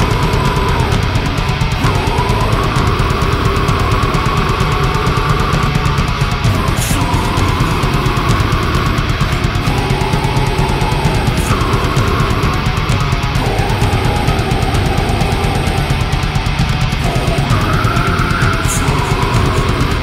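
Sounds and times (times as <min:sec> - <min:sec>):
distorted guitars and bass: 0:00.0 - 0:20.0
fast dense drumming: 0:00.0 - 0:20.0.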